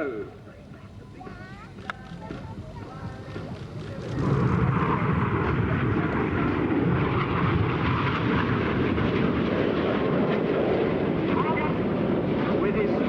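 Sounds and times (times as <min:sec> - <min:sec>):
jet engines passing close: 0:00.0 - 0:13.0.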